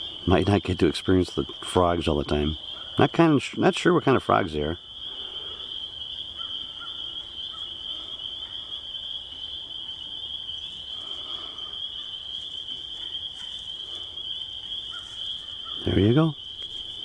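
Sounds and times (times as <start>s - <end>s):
faint low frog calls: 0.0s - 17.0s
frogs trilling: 0.0s - 17.0s.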